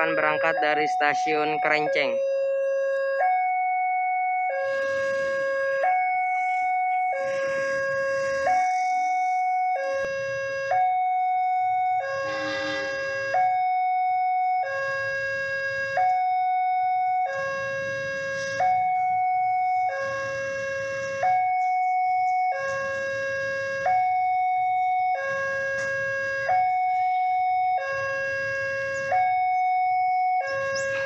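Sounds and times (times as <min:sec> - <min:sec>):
level crossing two-tone alarm: 0:00.0 - 0:31.0.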